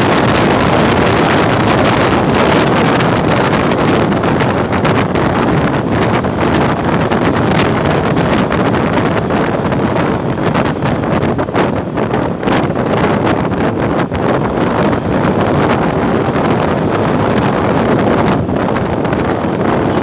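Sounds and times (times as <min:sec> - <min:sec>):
motorcycle ride rush: 0:00.0 - 0:20.0
wind buffeting microphone: 0:00.0 - 0:20.0.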